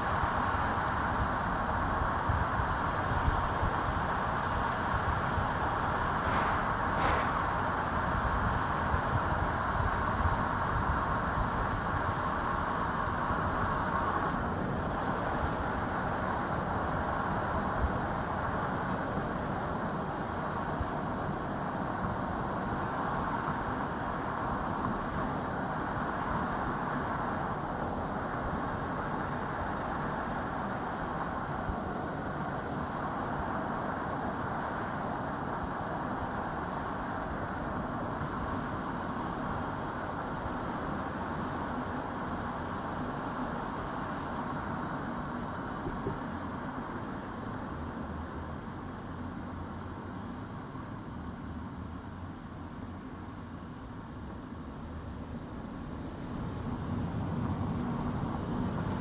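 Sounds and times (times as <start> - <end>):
car tyre and engine noise: 0.0 - 59.0.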